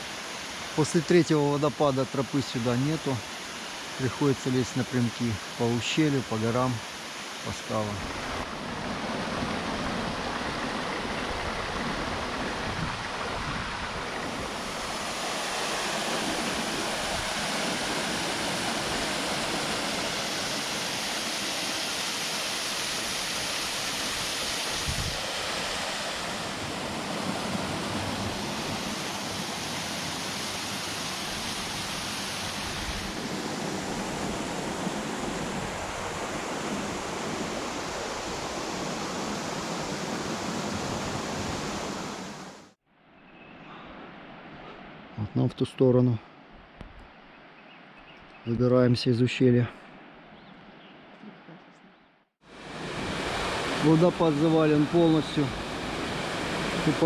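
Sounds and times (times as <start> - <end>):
waterfall rushing water: 0.0 - 42.8, 52.5 - 57.0.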